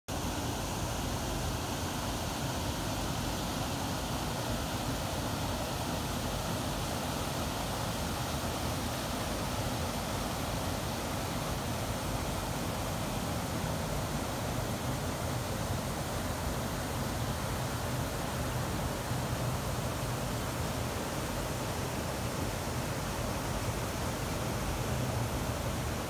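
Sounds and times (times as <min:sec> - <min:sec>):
water rushing over a weir: 0:00.1 - 0:26.0.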